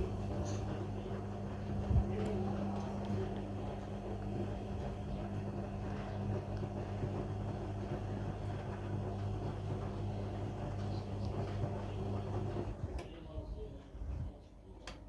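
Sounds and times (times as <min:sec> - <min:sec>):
washing machine running: 0:00.0 - 0:14.4.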